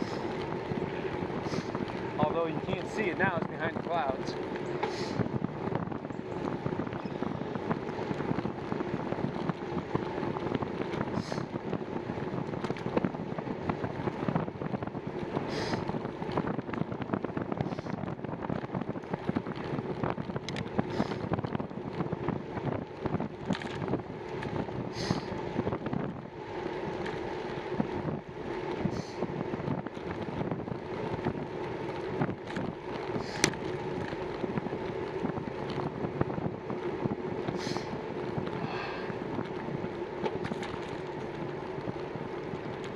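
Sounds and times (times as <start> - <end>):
bicycle rattles and knocks: 0.0 - 42.9
bicycle tyre rumble: 0.0 - 42.9
wind on microphone: 0.0 - 42.9.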